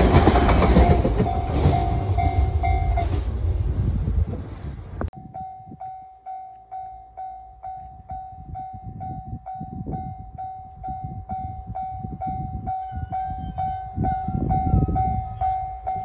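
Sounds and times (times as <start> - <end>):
wind rumble on microphone: 0.0 - 6.0, 7.7 - 16.0.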